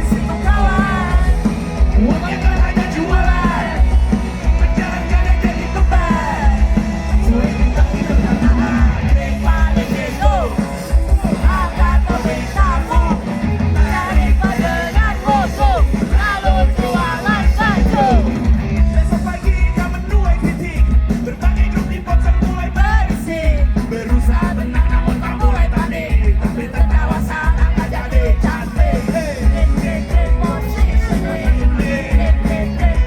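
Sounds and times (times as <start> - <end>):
loud rock music: 0.0 - 33.0
vocalist yelling and singing: 0.0 - 33.0.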